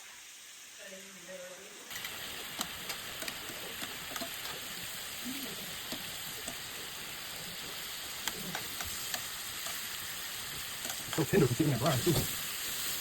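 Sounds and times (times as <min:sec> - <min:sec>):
chicken sizzling in a pan: 0:00.0 - 0:13.0
sharp pops and crackles: 0:01.9 - 0:13.0.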